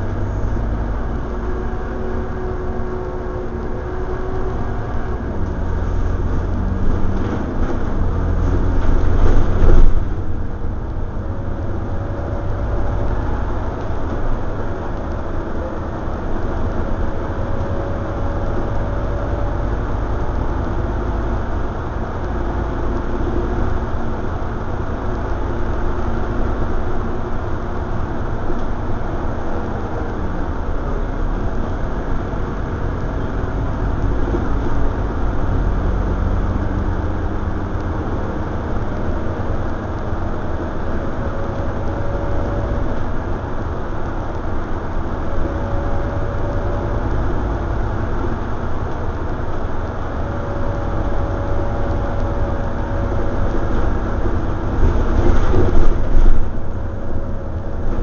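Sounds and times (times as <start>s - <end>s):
bus engine and road rumble: 0.0s - 58.0s
faint whine: 0.0s - 58.0s.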